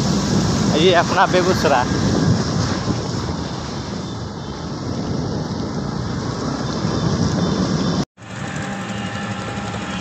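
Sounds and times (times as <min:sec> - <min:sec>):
road and wind rumble: 0:00.0 - 0:10.0.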